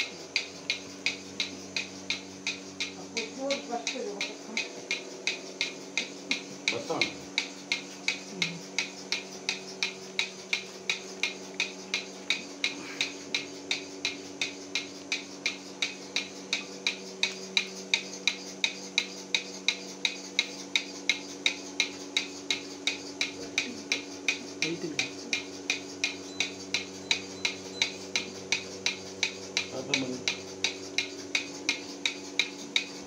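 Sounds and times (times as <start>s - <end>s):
milking pulsator clicking: 0.0s - 33.0s
vacuum pump hum: 0.0s - 33.0s.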